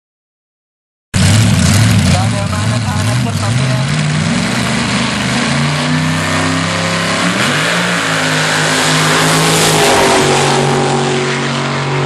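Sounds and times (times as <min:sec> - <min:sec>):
drag racing car engine accelerating: 0:01.2 - 0:12.0
loud rushing noise: 0:01.2 - 0:12.0.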